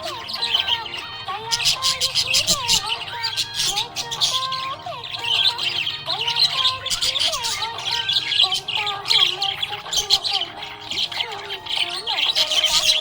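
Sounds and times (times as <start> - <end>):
budgerigars chirping and chattering: 0.0 - 13.0.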